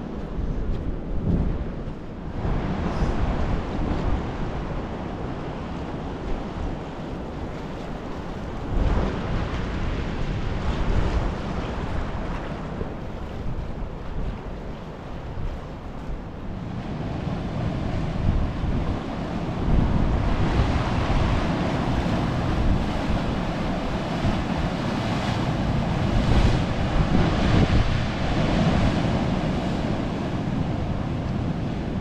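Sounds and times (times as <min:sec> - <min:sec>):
wind buffeting microphone: 0:00.0 - 0:32.0
ocean surf rushing: 0:02.2 - 0:32.0.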